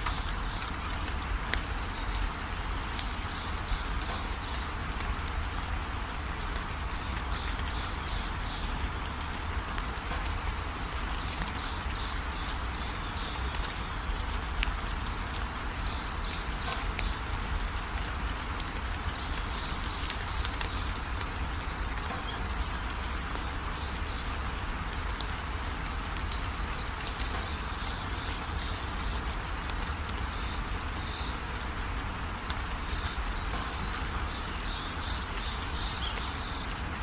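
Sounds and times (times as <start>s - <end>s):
rain hissing: 0.0s - 37.0s.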